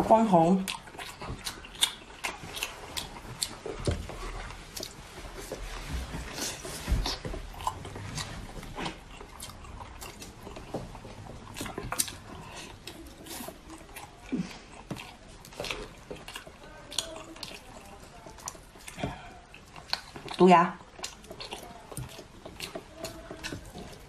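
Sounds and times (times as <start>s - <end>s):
wet chewing and lip smacking: 0.0s - 24.0s.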